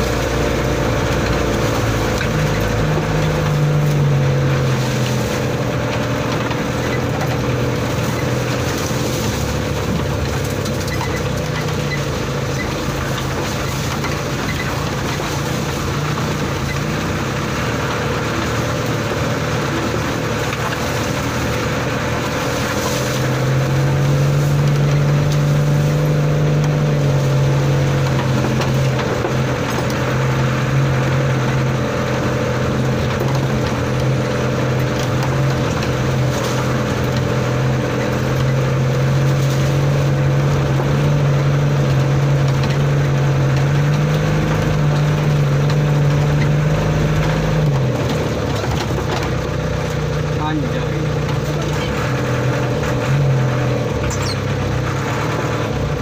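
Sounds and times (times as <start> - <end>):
truck engine under load: 0.0 - 56.0.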